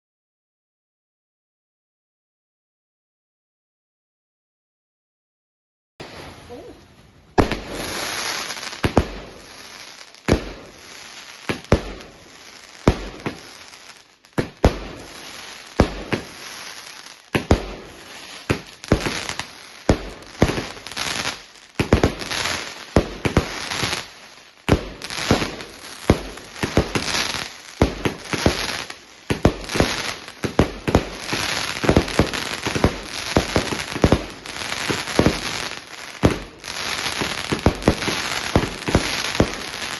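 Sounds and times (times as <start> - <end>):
firework crackling: 6.0 - 39.9
firework bangs: 7.3 - 39.9.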